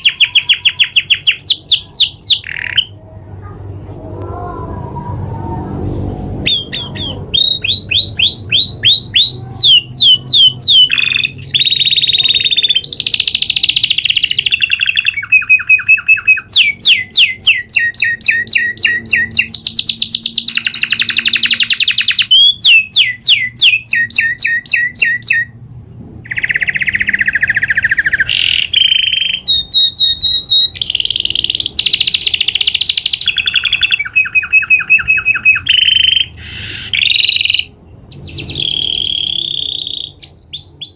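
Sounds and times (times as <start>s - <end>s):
canary singing: 0.0s - 25.6s, 26.2s - 40.9s.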